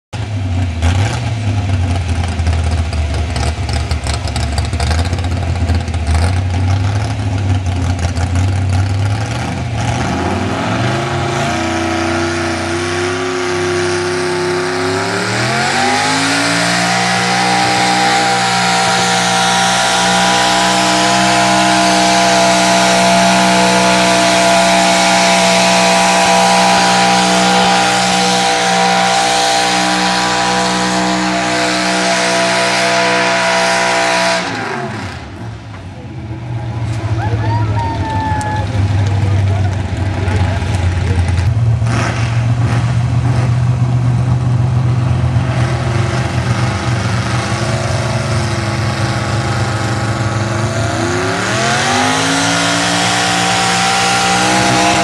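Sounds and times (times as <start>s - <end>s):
truck engine rumbling and revving: 0.1s - 55.0s.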